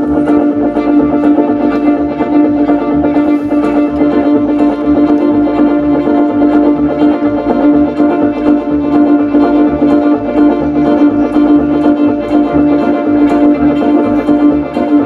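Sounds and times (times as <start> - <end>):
banjo: 0.0 - 15.0
fiddle: 0.0 - 15.0
string band playing: 0.0 - 15.0
upright bass: 0.0 - 15.0.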